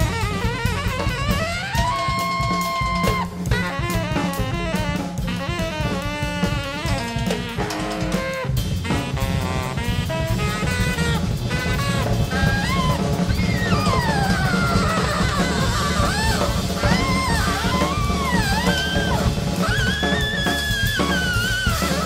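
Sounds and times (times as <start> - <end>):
busy drum kit: 0.0 - 22.0
jazz melody line: 0.0 - 22.0.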